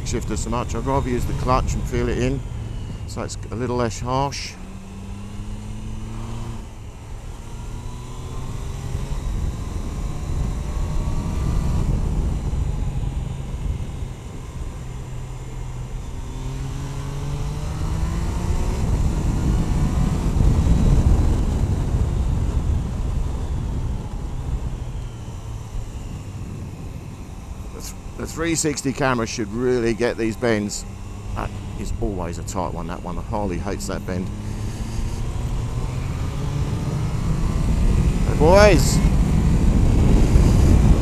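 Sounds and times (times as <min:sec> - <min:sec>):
motorcycle engine accelerating: 0:00.0 - 0:41.0
wind rumble on microphone: 0:00.0 - 0:41.0.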